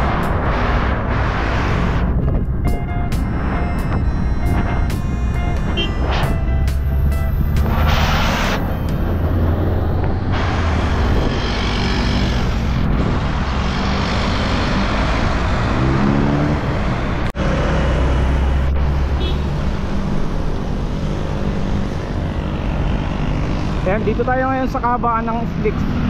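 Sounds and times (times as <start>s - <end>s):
engine rising in pitch: 0.0s - 23.8s
highway traffic passing: 0.0s - 26.0s.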